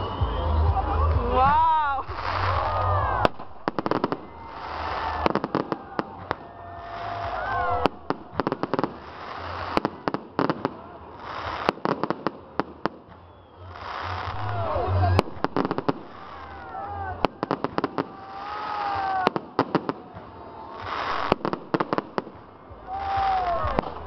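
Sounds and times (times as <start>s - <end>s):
fireworks bangs and crackles: 0.0s - 24.0s
fireworks hissing: 2.0s - 24.0s.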